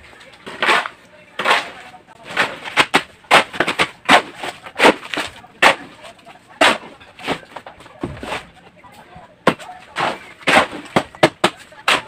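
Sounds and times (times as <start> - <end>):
shovels scraping wet concrete: 0.4 - 8.6, 9.5 - 12.0.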